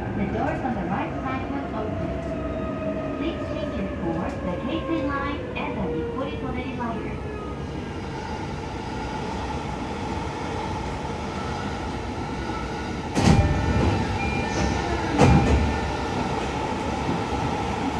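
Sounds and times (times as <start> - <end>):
train interior running noise: 0.0 - 17.9.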